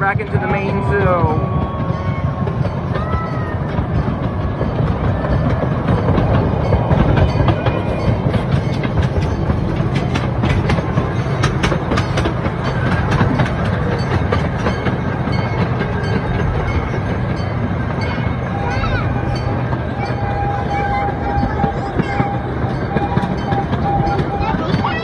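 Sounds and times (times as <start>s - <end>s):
clicking and rattling of track: 0.0s - 25.0s
train wheels rumbling: 0.0s - 25.0s.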